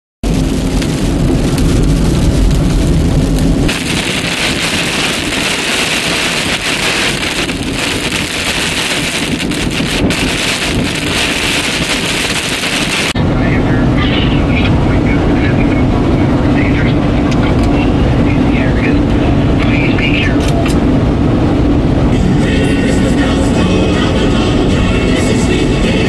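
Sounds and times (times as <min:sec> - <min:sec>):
heavy rain on a car: 0:00.2 - 0:26.0
low rumble: 0:00.2 - 0:26.0.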